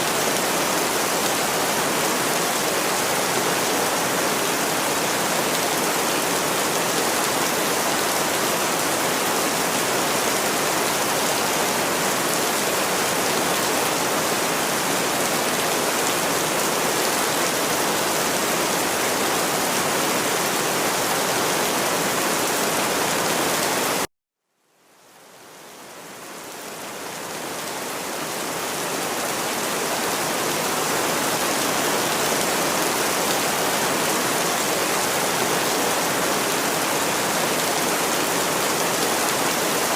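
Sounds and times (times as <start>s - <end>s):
dense rain: 0.0s - 24.1s, 24.7s - 39.9s.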